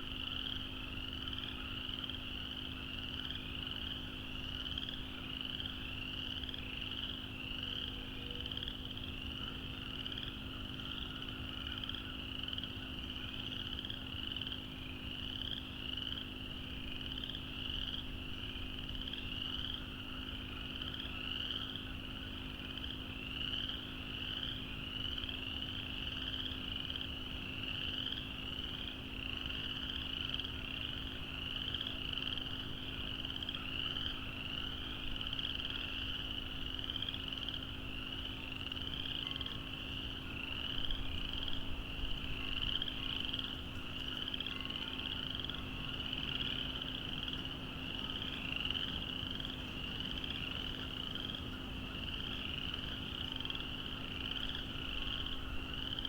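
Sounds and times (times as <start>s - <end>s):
frogs peeping: 0.0s - 56.0s.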